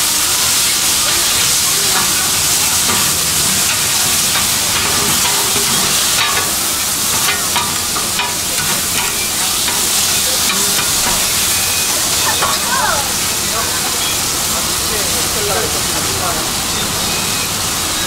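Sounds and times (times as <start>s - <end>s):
food sizzling on griddle: 0.0s - 18.0s.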